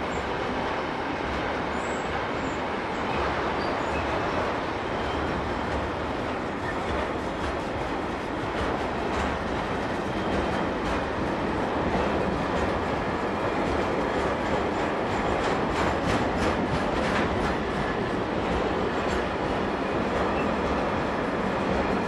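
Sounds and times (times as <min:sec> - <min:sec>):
rumble of wheels on track: 0:00.0 - 0:22.0.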